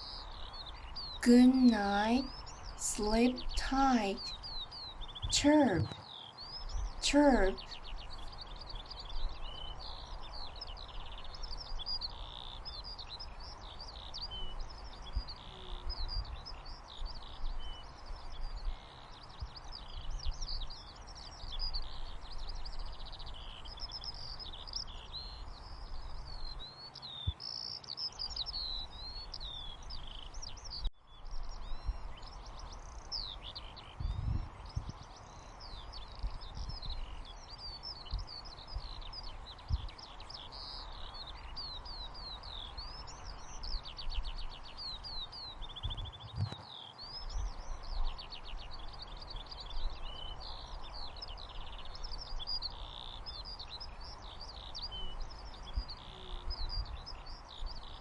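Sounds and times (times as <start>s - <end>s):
small birds chirping: 0.0s - 6.7s, 7.3s - 58.0s.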